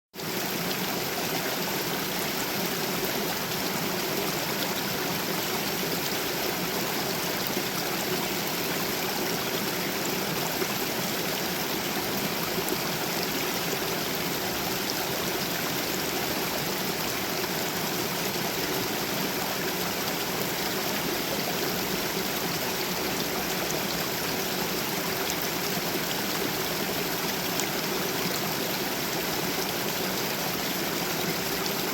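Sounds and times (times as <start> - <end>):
stream rushing over cascade: 0.2 - 31.9.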